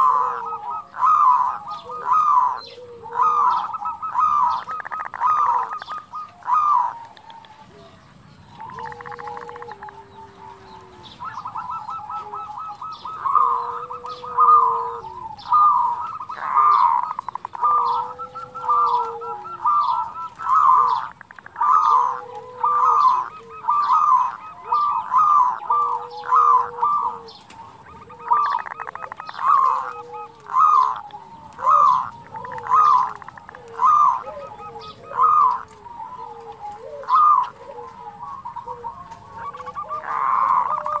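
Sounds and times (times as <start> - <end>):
doves cooing: 0.0 - 41.0
low drawn-out dove coo: 0.0 - 41.0.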